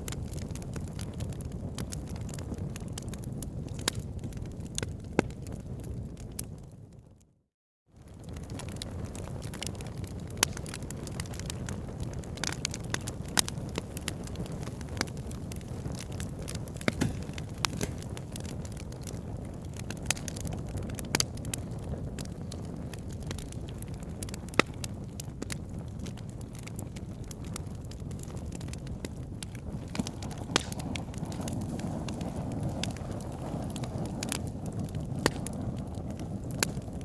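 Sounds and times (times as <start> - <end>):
burning wood crackling and popping: 0.0 - 7.2, 8.0 - 37.0
low rumble of flames: 0.0 - 7.4, 8.0 - 37.0.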